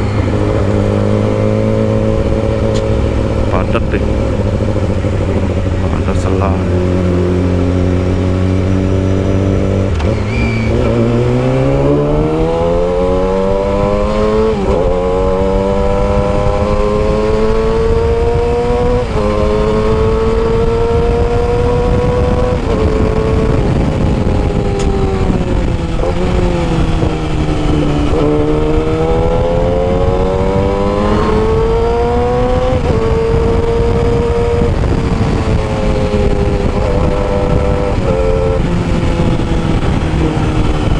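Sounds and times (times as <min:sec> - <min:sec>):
motorcycle engine revving: 0:00.0 - 0:40.9
wind buffeting: 0:00.0 - 0:40.9.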